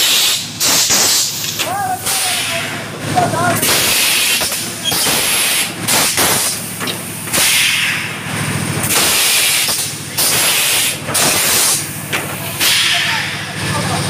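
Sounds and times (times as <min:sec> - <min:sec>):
compressed air hisses: 0:00.0 - 0:02.8, 0:03.6 - 0:08.1, 0:08.8 - 0:13.4
low machine hum: 0:00.0 - 0:14.0.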